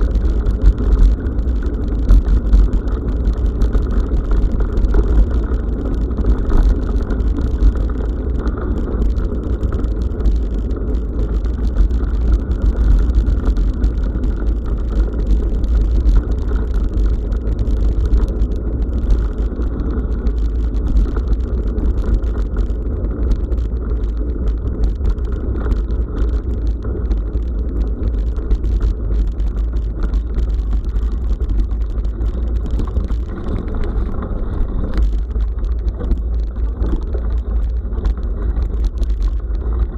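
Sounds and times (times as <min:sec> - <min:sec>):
bicycle tyres on gravel: 0:00.0 - 0:39.9
wind rumble on microphone: 0:00.0 - 0:39.9.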